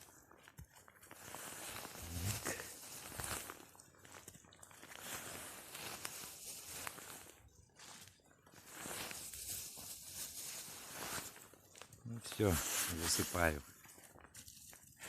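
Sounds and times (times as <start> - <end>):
campfire crackling and snapping: 0.0 - 15.0
rustling movement: 1.1 - 15.0.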